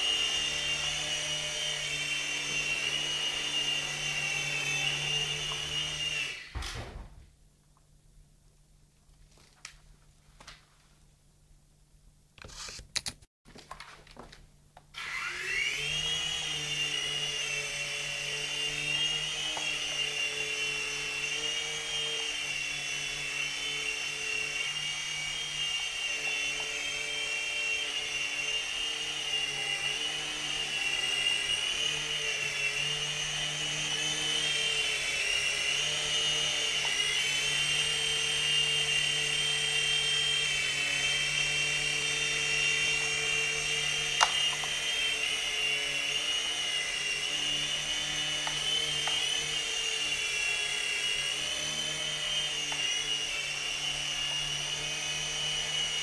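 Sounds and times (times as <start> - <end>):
electric motor whine: 0.0 - 6.8, 15.0 - 56.0.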